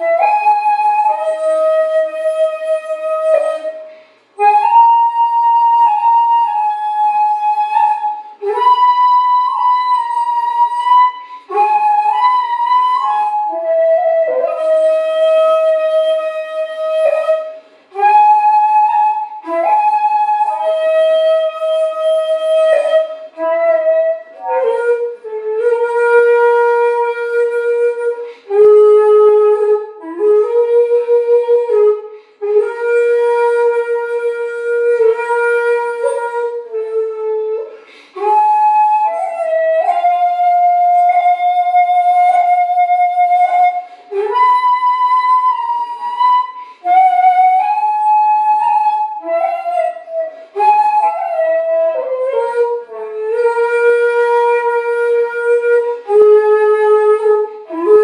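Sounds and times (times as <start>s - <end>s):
breathy bamboo flute: 0.0s - 58.0s.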